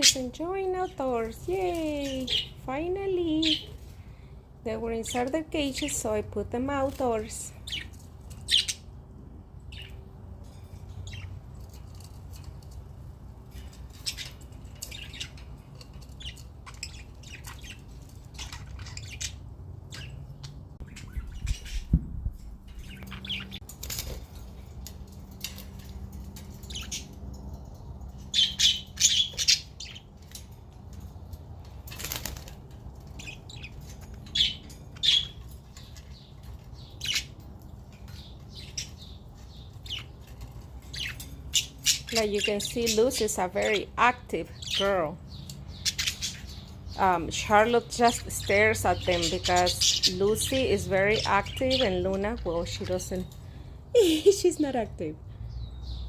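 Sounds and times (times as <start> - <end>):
budgerigars chirping and squawking: 0.0 - 3.7, 5.0 - 8.9, 9.7 - 10.1, 10.8 - 12.4, 13.5 - 22.0, 22.7 - 24.2, 25.4 - 27.3, 28.1 - 56.0.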